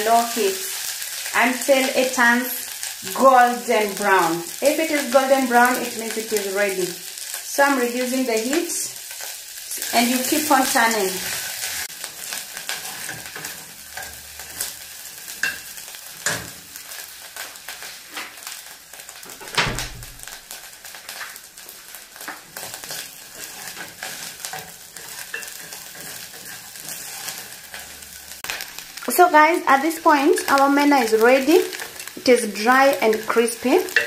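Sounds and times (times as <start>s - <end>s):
fish sizzling in oil: 0.0s - 34.0s.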